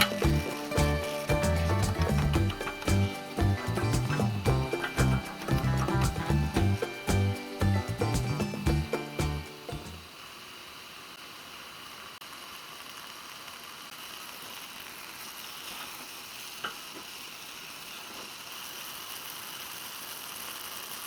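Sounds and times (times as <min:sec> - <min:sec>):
food sizzling: 0:00.0 - 0:21.0.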